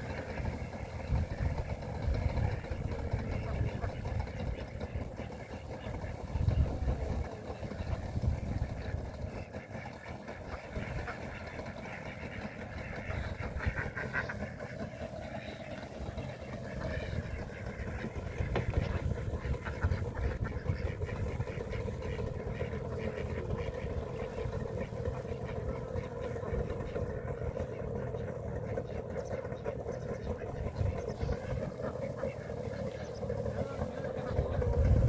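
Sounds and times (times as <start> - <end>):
boat motor running: 0.0 - 35.0.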